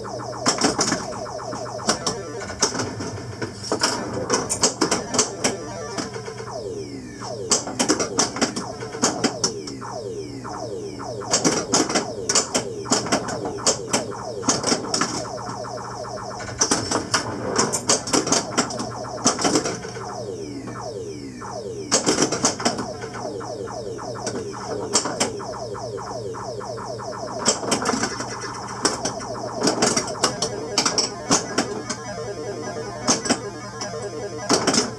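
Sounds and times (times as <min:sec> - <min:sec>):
electronic game sound effects: 0:00.0 - 0:34.9
steady low hum: 0:00.0 - 0:34.9.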